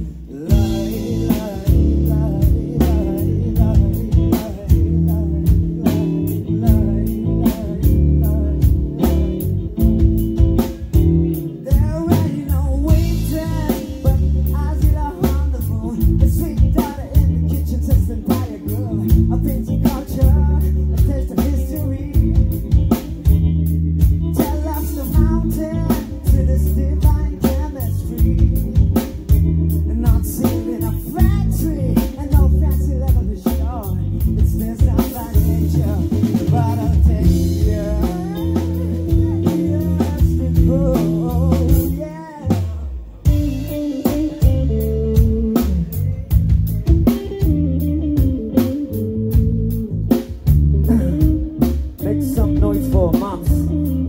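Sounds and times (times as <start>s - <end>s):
live soul-funk band: 0.0s - 54.0s
person singing: 0.0s - 54.0s.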